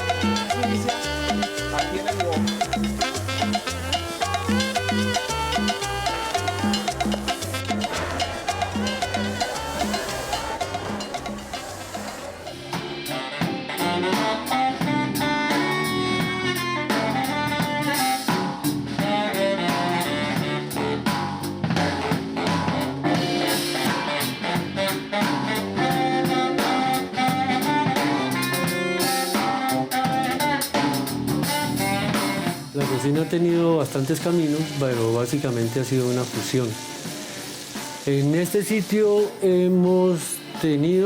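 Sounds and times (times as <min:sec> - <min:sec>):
latin band with horns and drums: 0:00.0 - 0:41.0.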